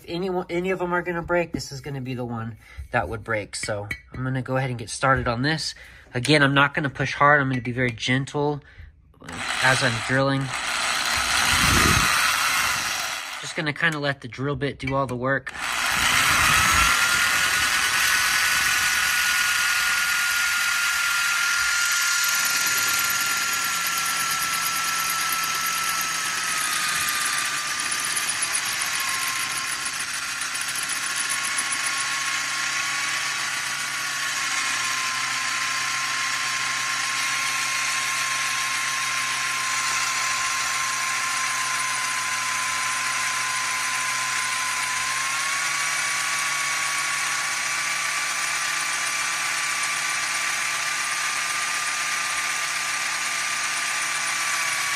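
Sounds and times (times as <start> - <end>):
electric drill grinding ceramic: 9.2 - 14.1, 14.9 - 54.9.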